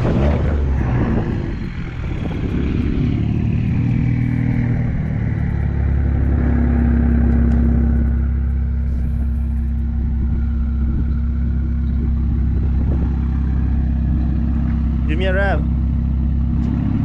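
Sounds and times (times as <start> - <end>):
car engine through straight exhaust: 0.0 - 17.0.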